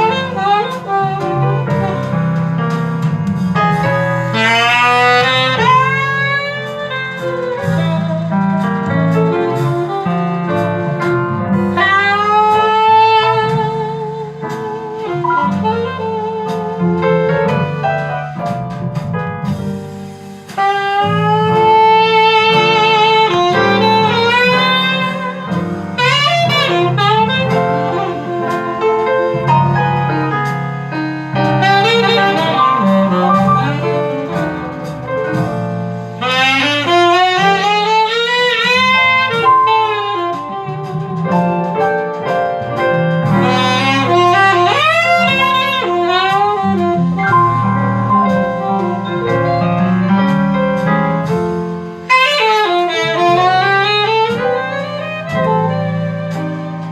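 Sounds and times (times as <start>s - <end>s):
jazz melody over bass line: 0.0s - 56.9s.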